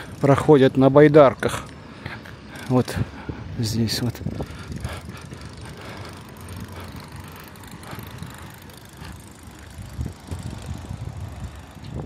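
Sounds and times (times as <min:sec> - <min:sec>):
engine rumbling: 0:00.0 - 0:12.0
outdoor noise: 0:00.0 - 0:12.0.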